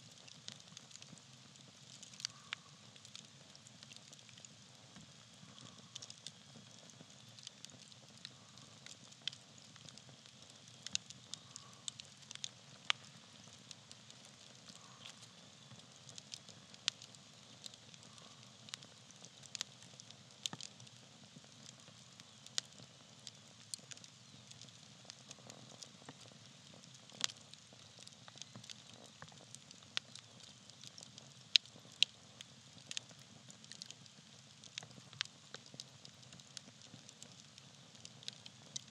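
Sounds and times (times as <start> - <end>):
campfire crackling and popping: 0.0 - 38.9
faint hiss of burning: 0.0 - 38.9.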